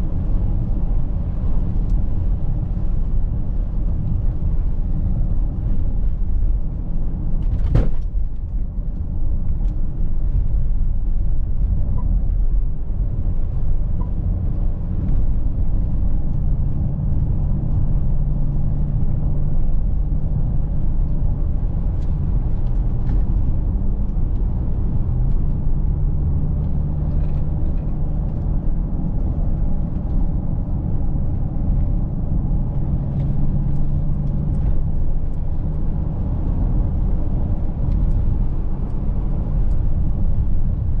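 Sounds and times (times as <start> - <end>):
tyre and road noise: 0.0 - 41.0.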